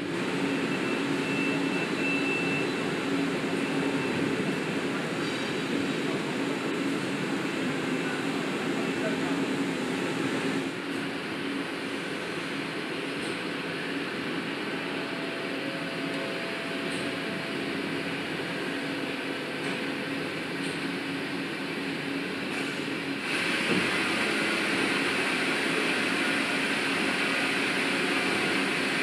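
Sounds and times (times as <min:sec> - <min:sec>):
factory machinery hum: 0:00.0 - 0:29.0
loud hissy machine noise: 0:00.0 - 0:29.0.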